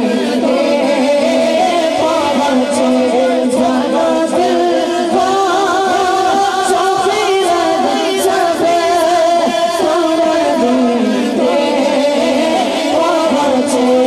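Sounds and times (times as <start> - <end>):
boy singing into a microphone: 0.0 - 14.0.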